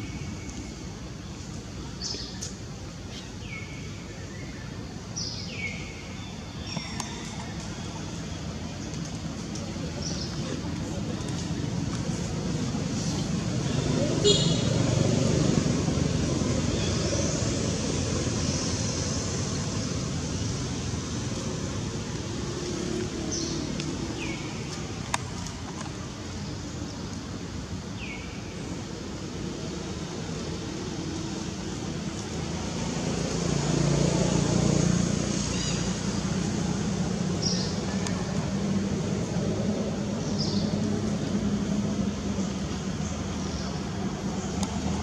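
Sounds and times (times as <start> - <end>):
distant road traffic rumble: 0.0 - 45.0.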